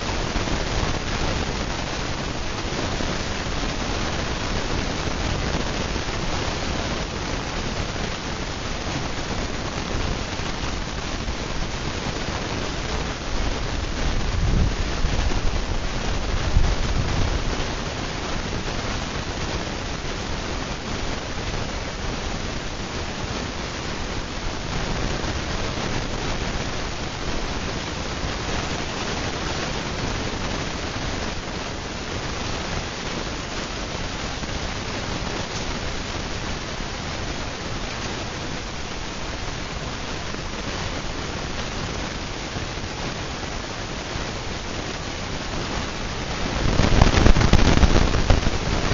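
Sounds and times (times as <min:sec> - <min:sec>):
ceiling fan rushing air: 0:00.0 - 0:48.9.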